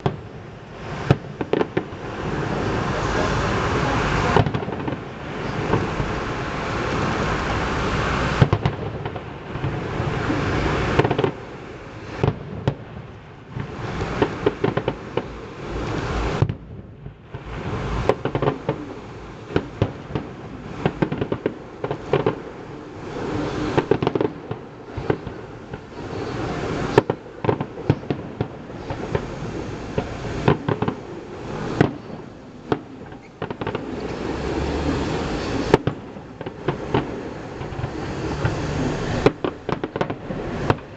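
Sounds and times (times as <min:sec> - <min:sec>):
continuous rumble: 0:00.0 - 0:40.9
fireworks bangs and crackling: 0:00.0 - 0:40.9.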